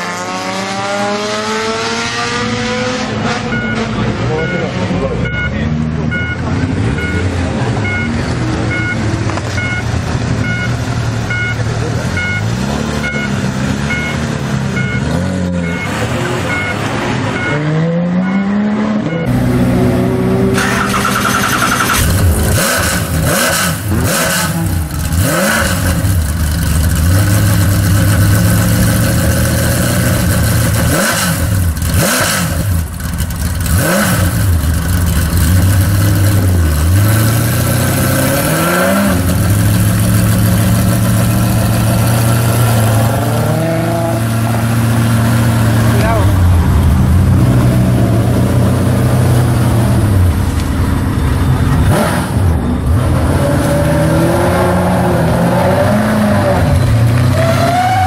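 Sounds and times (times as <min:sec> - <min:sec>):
car engine idling and revving: 0:00.0 - 0:58.0
car engine pulling away: 0:00.0 - 0:58.0.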